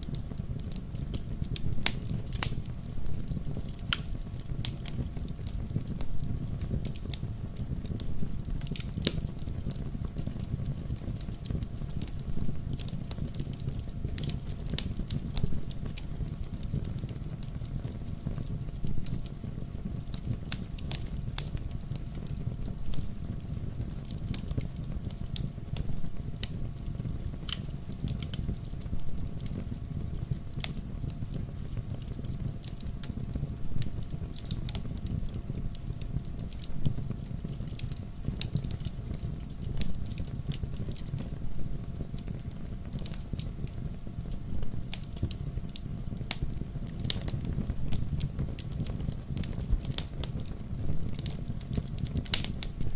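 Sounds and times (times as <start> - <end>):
fire pops and snaps: 0.0 - 52.9
wood fire crackling: 0.0 - 52.9.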